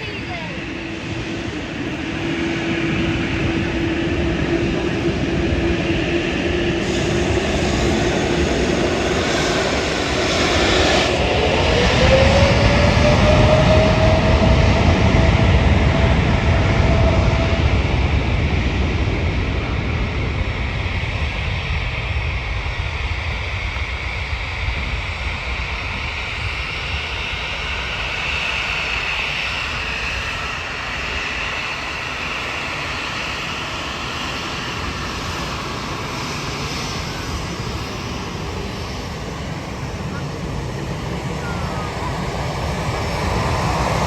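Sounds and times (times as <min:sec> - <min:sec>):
jet airliner engines passing: 0:00.0 - 0:44.0.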